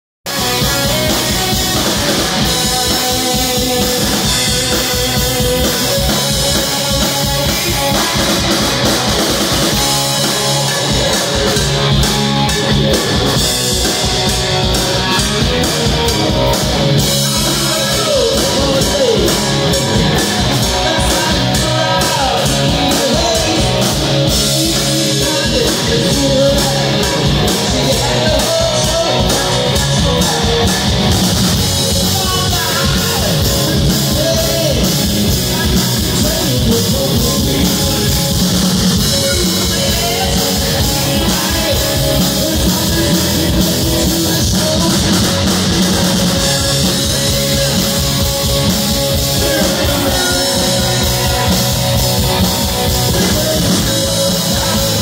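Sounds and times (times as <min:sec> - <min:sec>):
live rock band playing: 0:00.2 - 0:55.0.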